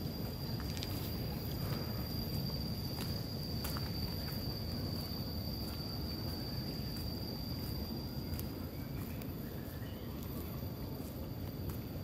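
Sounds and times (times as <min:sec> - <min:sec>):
insect high-pitched tone: 0:00.0 - 0:12.0.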